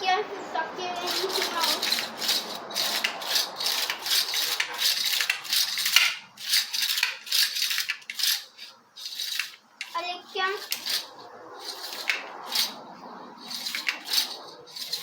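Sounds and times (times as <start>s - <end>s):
rhythmic hand scraping strokes: 0.8s - 15.0s.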